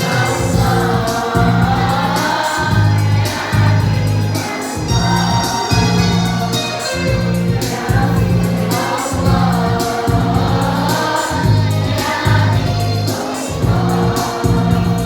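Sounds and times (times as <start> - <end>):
choir singing: 0.0 - 15.0
instrumental accompaniment: 0.0 - 15.0.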